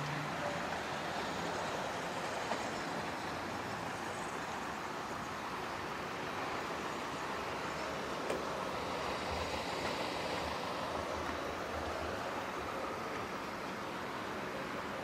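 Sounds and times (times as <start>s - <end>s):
rushing vehicle noise: 0.0s - 15.0s.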